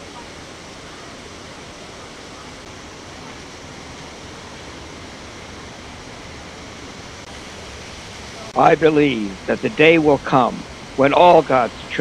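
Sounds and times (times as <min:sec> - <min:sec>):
waterfall rushing into a pool: 0:00.0 - 0:12.0.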